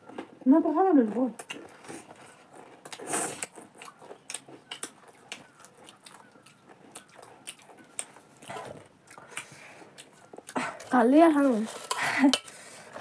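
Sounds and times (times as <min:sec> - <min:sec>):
children chewing crunchy snack: 0:00.0 - 0:13.0.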